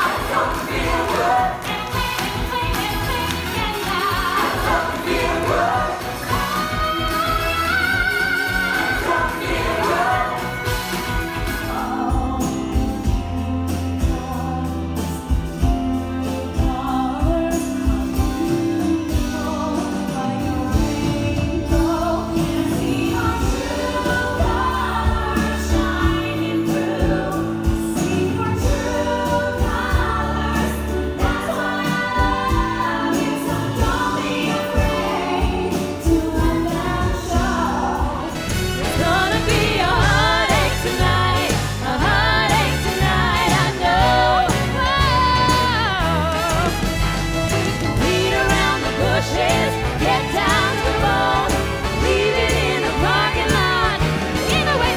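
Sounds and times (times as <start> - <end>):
singers with backing vocals: 0.0 - 46.9, 47.6 - 54.9
band accompaniment: 0.0 - 54.9.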